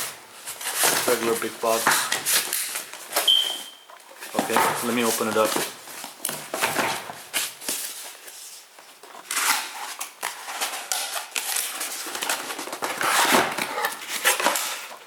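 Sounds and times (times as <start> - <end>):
cardboard and paper rustling: 0.0 - 15.0.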